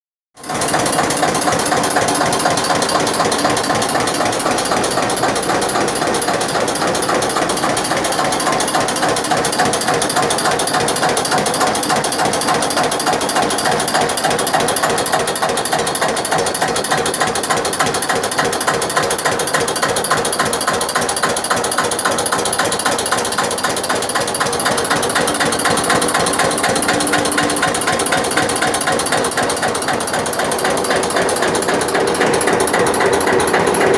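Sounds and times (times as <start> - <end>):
tractor diesel engine clattering: 0.4 - 33.9.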